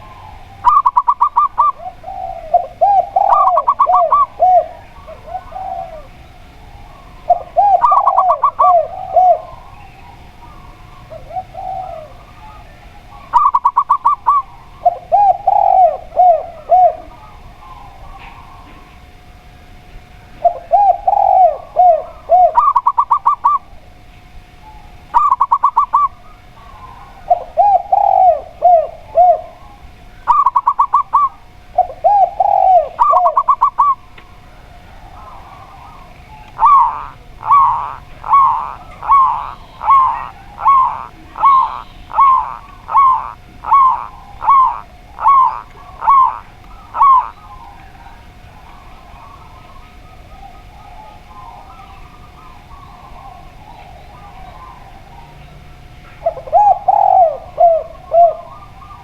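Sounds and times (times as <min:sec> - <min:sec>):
doves cooing: 0:00.0 - 0:59.0
trilled cooing bursts: 0:00.0 - 0:59.0.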